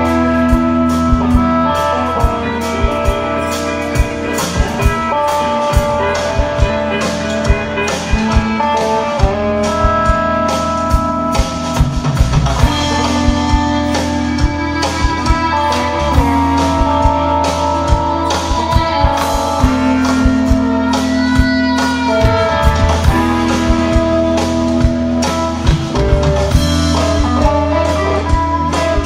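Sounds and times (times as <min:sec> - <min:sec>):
drum kit beat: 0:00.0 - 0:29.0
electric guitars: 0:00.0 - 0:29.0.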